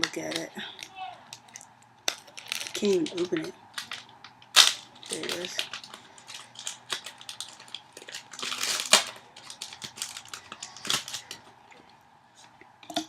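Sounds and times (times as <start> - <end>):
foil wrapper crinkling: 0.0 - 11.5.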